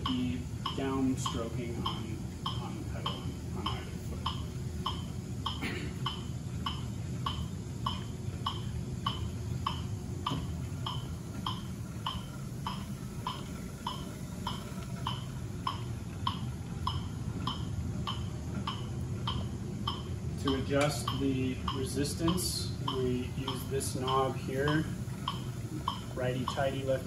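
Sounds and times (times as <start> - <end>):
exercise bike whirring: 0.0 - 27.0
metronome beeping: 0.0 - 27.0.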